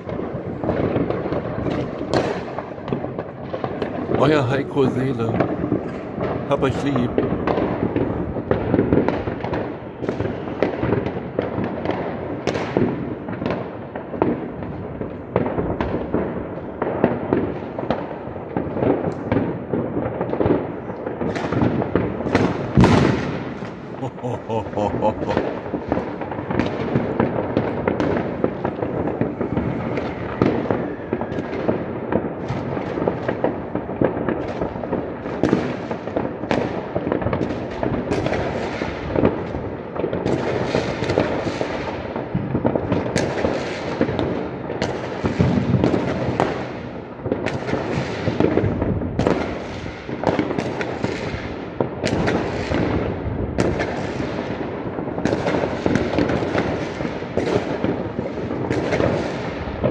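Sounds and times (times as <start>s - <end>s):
firework bangs: 0.0s - 59.9s
fireworks crackling: 0.0s - 59.9s.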